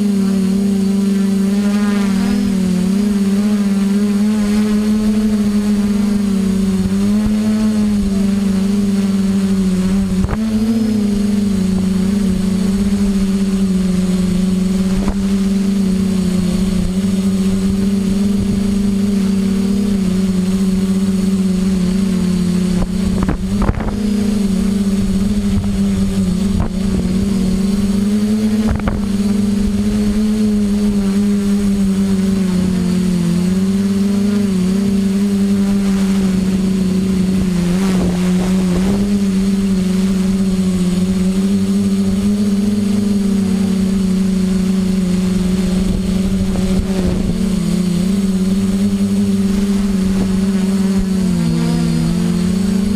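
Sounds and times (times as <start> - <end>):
drone motors humming: 0.0 - 52.9.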